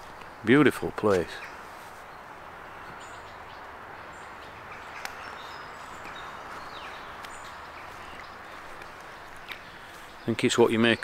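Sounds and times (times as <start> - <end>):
birds chirping: 0.0 - 11.0
outdoor background hiss: 0.0 - 11.0.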